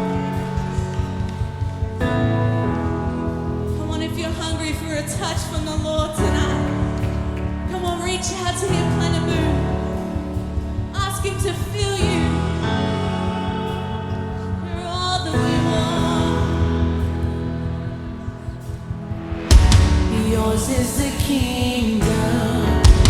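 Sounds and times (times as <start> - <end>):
electric bass long low notes: 0.0 - 23.0
pop song with singing: 0.0 - 23.0.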